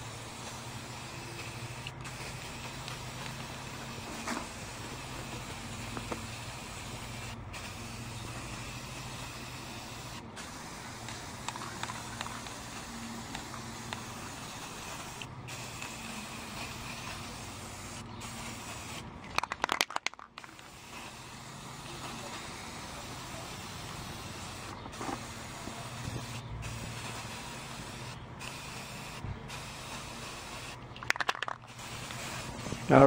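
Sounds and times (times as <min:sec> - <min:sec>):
spray paint can hissing: 0:00.0 - 0:33.0.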